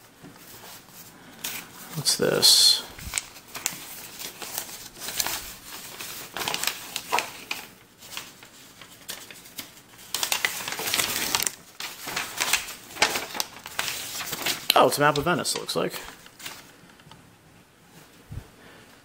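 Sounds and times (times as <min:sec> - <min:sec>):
paper map crinkling and rustling: 0:00.2 - 0:17.2.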